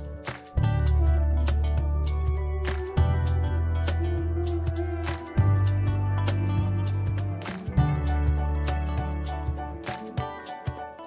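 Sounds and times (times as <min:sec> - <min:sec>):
background music with bass beat: 0:00.0 - 0:11.0.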